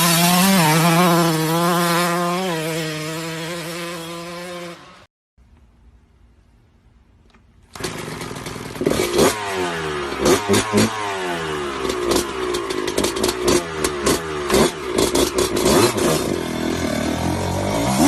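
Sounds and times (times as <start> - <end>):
motorcycle engine revving: 0.0 - 5.1, 7.7 - 18.0.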